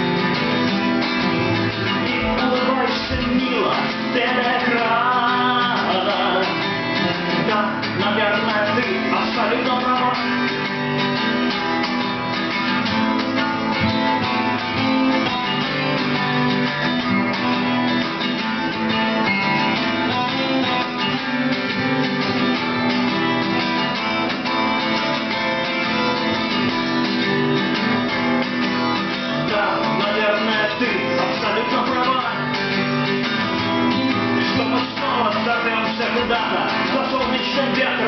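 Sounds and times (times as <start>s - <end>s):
acoustic guitars playing: 0.0s - 38.0s.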